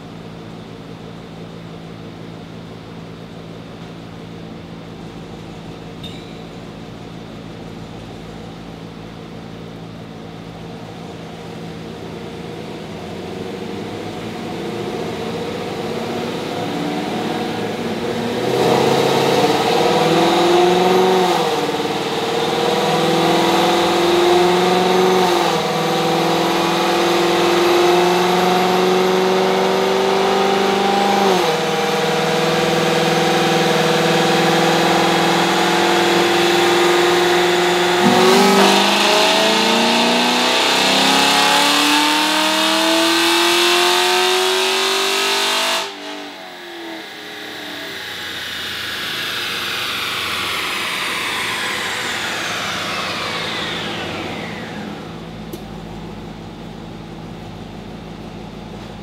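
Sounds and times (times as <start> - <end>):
car engine full-throttle pull: 10.5 - 59.0.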